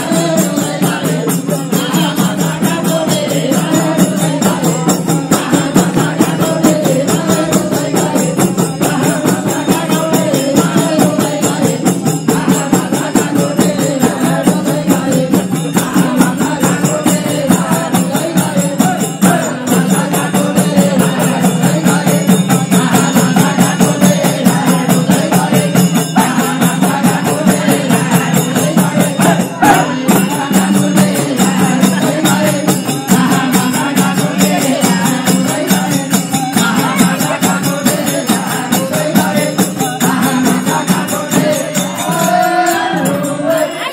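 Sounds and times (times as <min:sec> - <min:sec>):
group singing devotional song: 0:00.0 - 0:43.9
percussion with jingles: 0:00.0 - 0:43.9.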